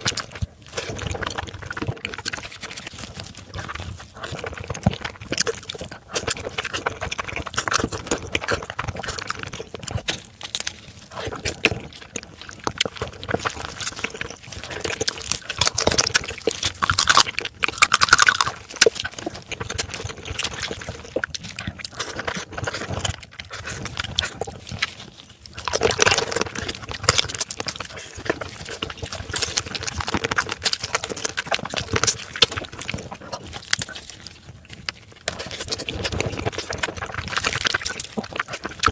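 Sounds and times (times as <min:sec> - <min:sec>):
wet chewing and slurping: 0:00.0 - 0:38.9.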